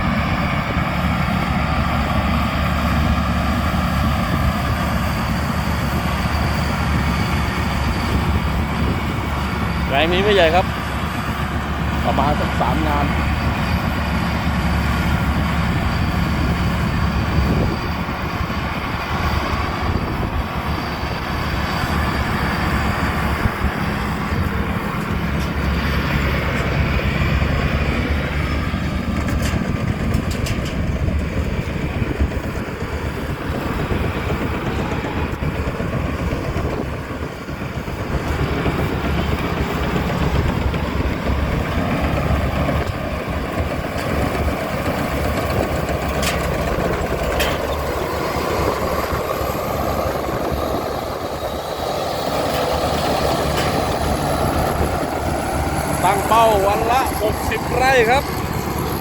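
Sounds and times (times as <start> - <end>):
harvester diesel engine running: 0.0 - 59.0.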